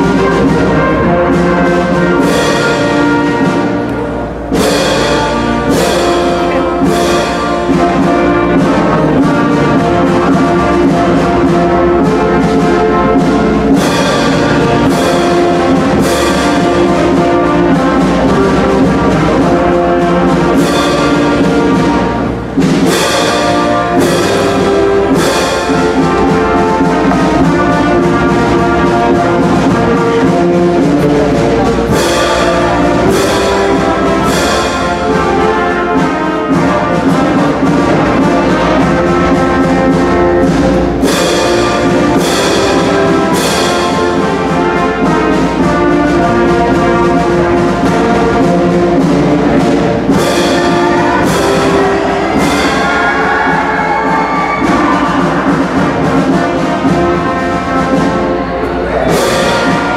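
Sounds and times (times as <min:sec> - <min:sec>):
orchestral brass chords: 0:00.0 - 0:59.9
sharp orchestral accents: 0:00.0 - 0:59.9.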